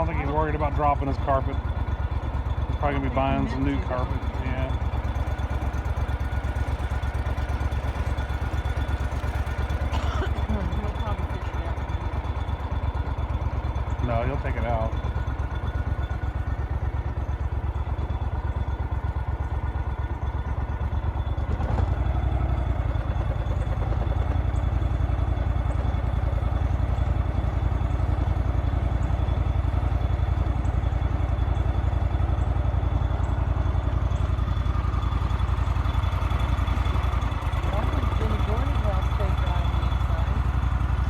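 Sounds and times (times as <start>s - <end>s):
engine throbbing at low speed: 0.0s - 41.0s.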